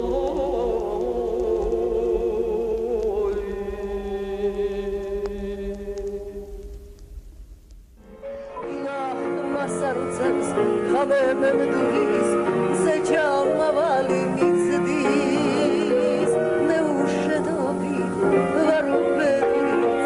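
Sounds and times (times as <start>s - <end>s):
person singing with vibrato: 0.0s - 7.0s, 8.4s - 20.0s.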